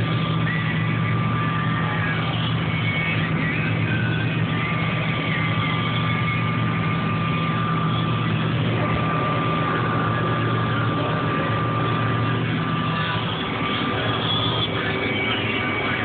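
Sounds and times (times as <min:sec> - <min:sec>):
combine harvester low drone: 0:00.0 - 0:16.0
high whine: 0:00.0 - 0:16.0.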